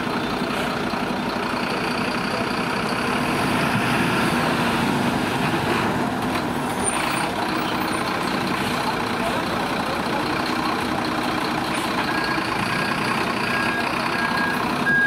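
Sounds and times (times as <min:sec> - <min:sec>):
fire truck engine running: 0:00.0 - 0:15.0.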